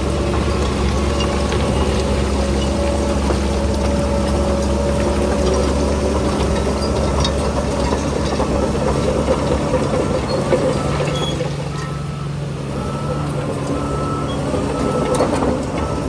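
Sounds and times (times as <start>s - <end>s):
diesel machinery engine running: 0.0s - 16.0s.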